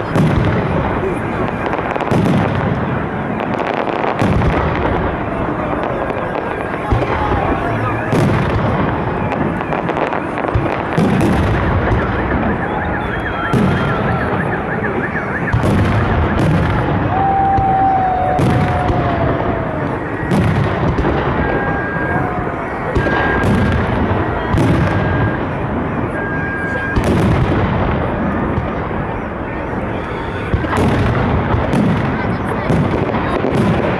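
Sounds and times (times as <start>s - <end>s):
crowd noise: 0.0s - 33.9s
firework shells booming: 0.0s - 33.9s.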